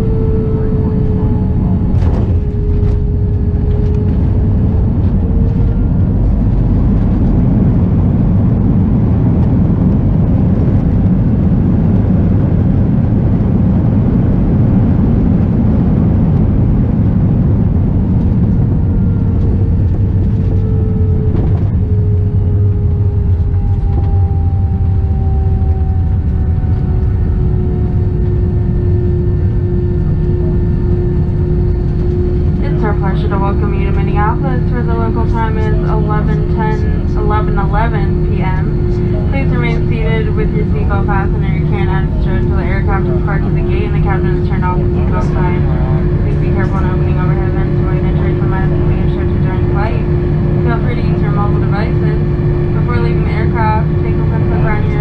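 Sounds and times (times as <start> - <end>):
engine tone falling in pitch: 0.0 - 13.2, 14.0 - 55.0
aircraft engines rumbling: 0.0 - 55.0.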